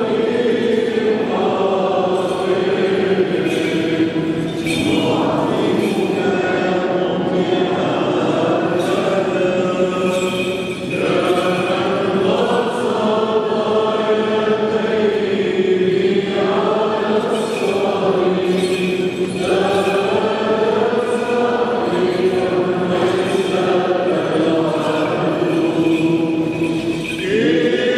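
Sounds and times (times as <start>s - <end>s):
voices singing liturgical chant: 0.0s - 27.9s.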